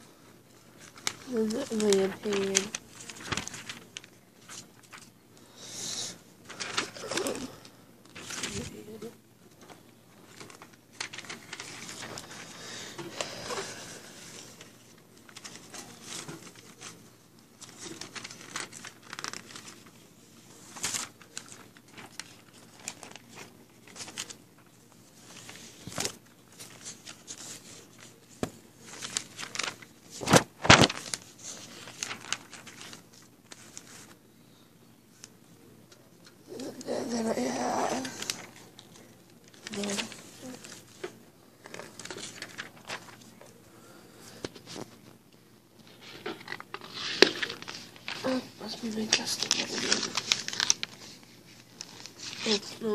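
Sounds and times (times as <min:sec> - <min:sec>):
paper and plastic rustling: 0:00.2 - 0:05.6, 0:06.4 - 0:34.2, 0:35.1 - 0:52.9.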